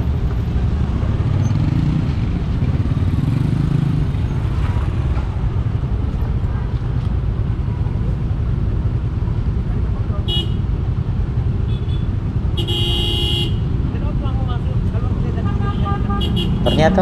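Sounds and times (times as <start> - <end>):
vehicle engine and tyre rumble: 0.0 - 17.0.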